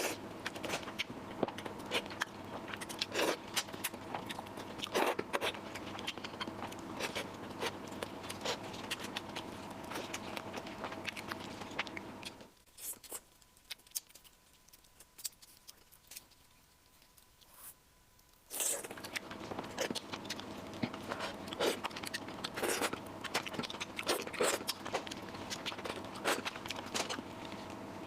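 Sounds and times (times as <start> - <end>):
clicks of biting and chewing: 0.0 - 27.8
steady background hiss: 0.0 - 28.0.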